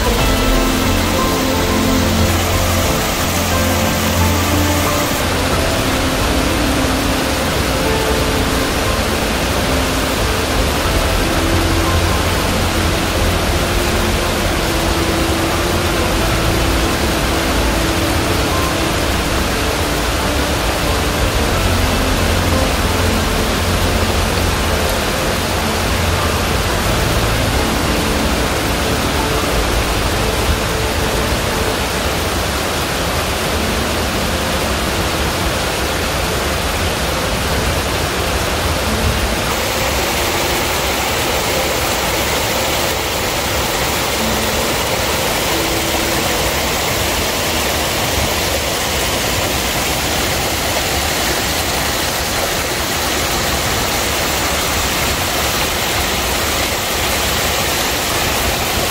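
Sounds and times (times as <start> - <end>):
small waterfalls: 0.0 - 58.9
stream rushing over rocks: 0.0 - 58.9.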